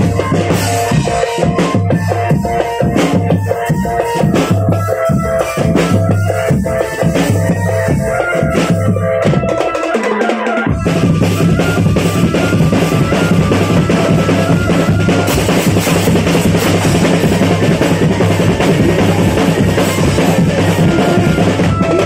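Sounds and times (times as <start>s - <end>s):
loud drum-driven music: 0.0s - 22.0s.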